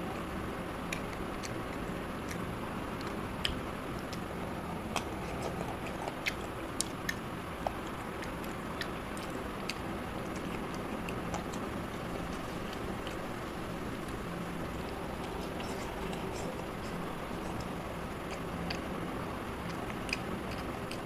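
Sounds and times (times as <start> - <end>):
person chewing: 0.0 - 21.0
sharp mouth and lip clicks: 0.0 - 21.0
steady background noise: 0.0 - 21.0.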